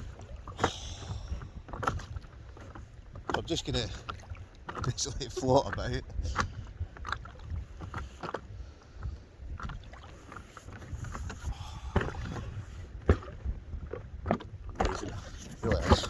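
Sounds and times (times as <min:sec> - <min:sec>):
sea water splashing: 0:00.0 - 0:16.0
wind rumble on microphone: 0:00.0 - 0:16.0.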